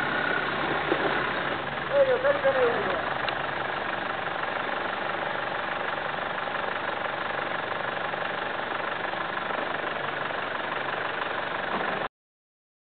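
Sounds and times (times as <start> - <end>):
engine idling: 0.0 - 12.1.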